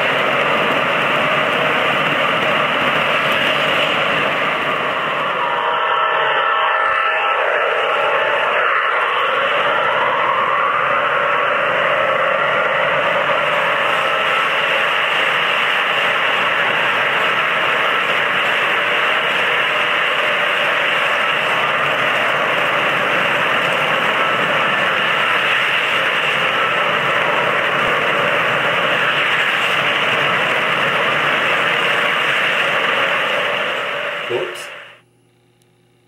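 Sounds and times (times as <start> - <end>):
model train cars rolling: 0.0 - 34.9.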